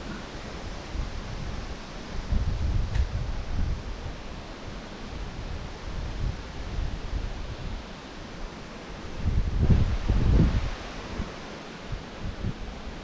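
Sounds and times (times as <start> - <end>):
wind buffeting microphone: 0.0 - 7.9, 9.0 - 13.0.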